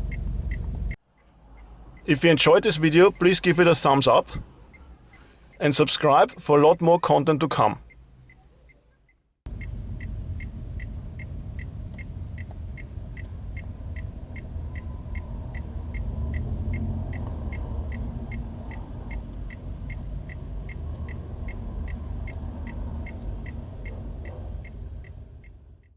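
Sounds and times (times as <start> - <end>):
car engine and road rumble: 0.0 - 25.9
turn signal ticking: 0.0 - 25.9.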